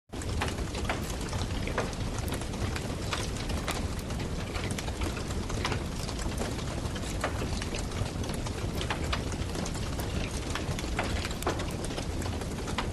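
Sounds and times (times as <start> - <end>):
campfire crackling: 0.2 - 12.9.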